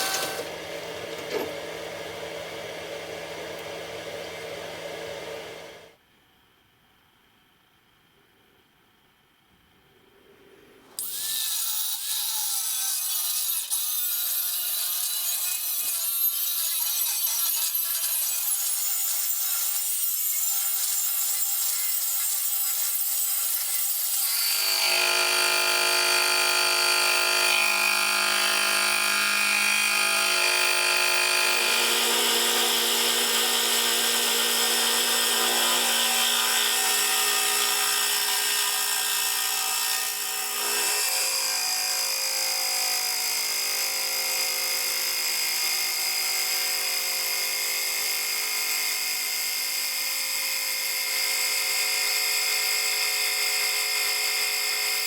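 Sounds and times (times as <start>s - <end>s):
power tool cutting: 0.0s - 5.9s, 11.0s - 55.0s.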